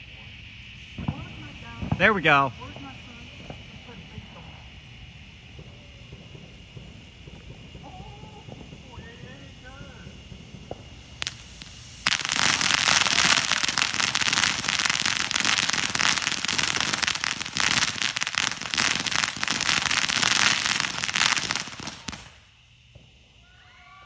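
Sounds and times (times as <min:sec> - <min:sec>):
fireworks crackling: 0:00.0 - 0:23.6.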